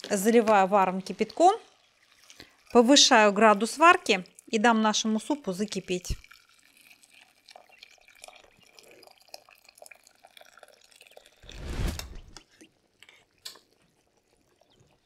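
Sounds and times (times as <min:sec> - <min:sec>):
water trickling and dripping: 0:00.0 - 0:11.5, 0:12.2 - 0:15.0
water splashing into pot: 0:00.0 - 0:12.4.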